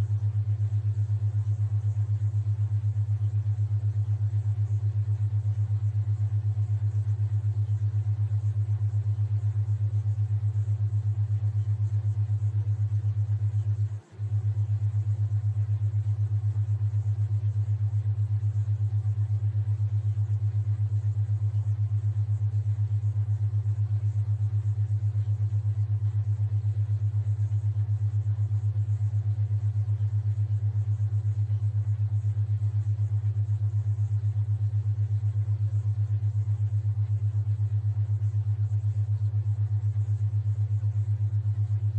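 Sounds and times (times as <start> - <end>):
pulsing low tone: 0.0 - 41.9.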